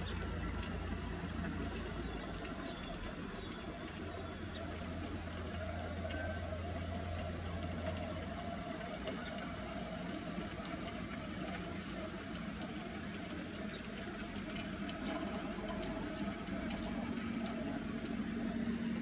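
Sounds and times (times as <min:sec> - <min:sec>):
deep low drone: 0:00.0 - 0:19.0
steady mechanical hum: 0:00.0 - 0:19.0.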